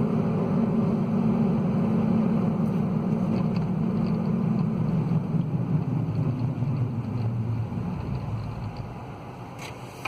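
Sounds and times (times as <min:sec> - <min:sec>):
car tires humming: 0:00.0 - 0:10.0.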